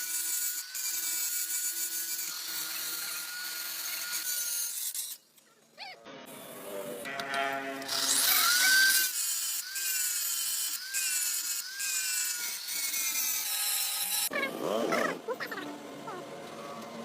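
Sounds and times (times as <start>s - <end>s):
tool strokes with whining tone: 0.0s - 5.3s, 6.3s - 15.8s.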